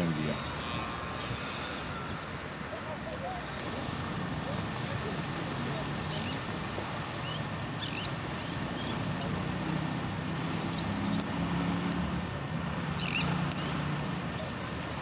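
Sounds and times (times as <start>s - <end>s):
sea noise: 0.0s - 15.0s
wind: 0.0s - 15.0s.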